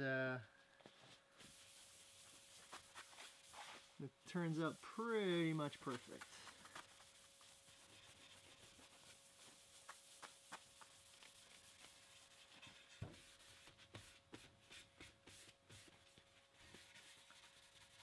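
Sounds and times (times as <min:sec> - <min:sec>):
paper towel rubbing wood: 0:01.0 - 0:18.0.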